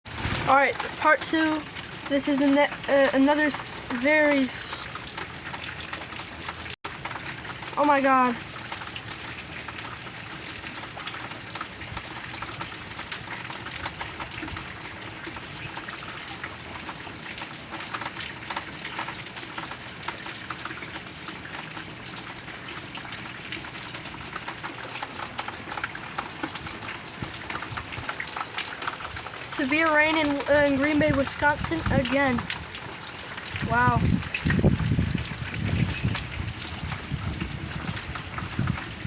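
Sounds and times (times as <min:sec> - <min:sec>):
heavy rain splashing into puddles: 0:00.1 - 0:39.0.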